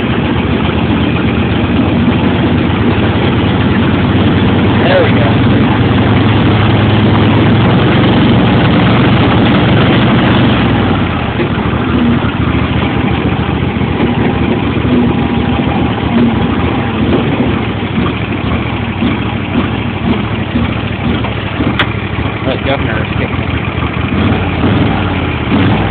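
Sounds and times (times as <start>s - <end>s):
lawn tractor engine running: 0.0s - 25.9s.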